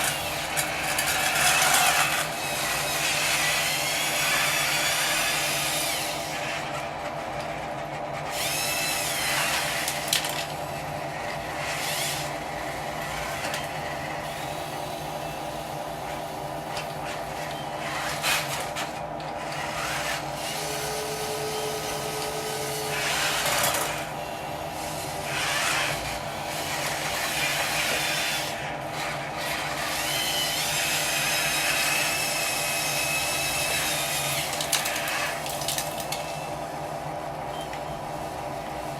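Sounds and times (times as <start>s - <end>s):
electric motor and pump whine: 0.0s - 38.9s.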